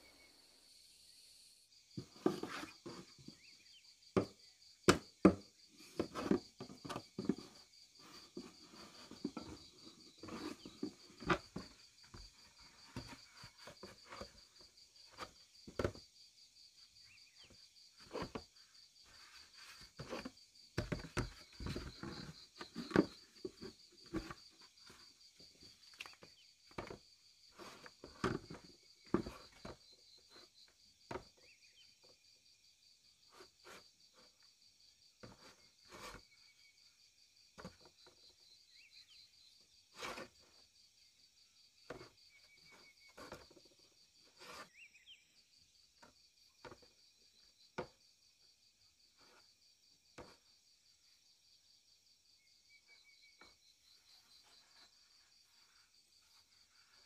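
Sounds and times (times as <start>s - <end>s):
insects trilling: 0.0s - 51.3s, 52.3s - 57.0s.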